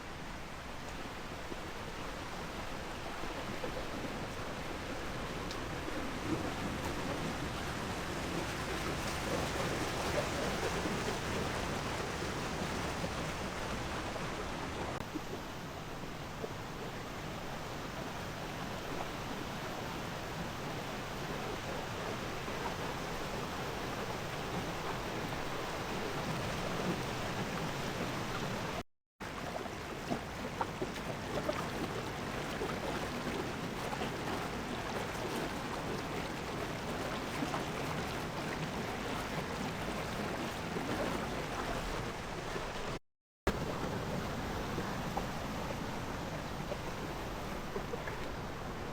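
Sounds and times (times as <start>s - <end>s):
flowing water rushing: 0.0s - 48.9s.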